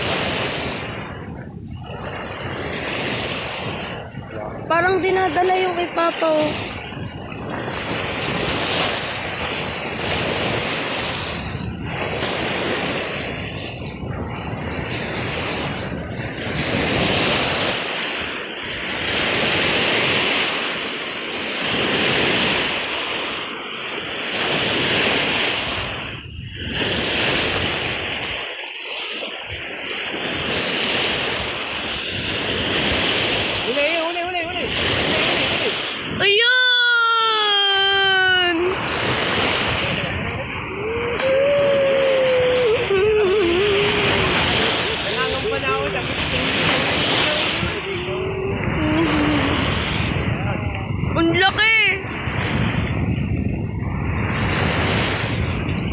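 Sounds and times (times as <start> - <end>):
lake waves breaking on shore: 0.0 - 55.9
wind noise on microphone: 0.0 - 55.9.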